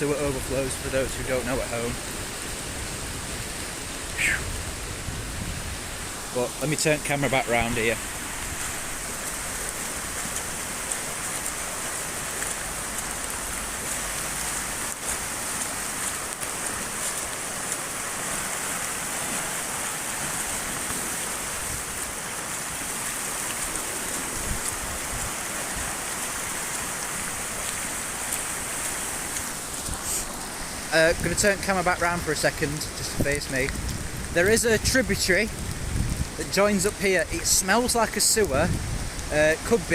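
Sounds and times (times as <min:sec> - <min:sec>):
heavy rain hissing: 0:00.0 - 0:39.9
rain striking microphone: 0:00.0 - 0:39.9
rushing brook: 0:00.0 - 0:39.9.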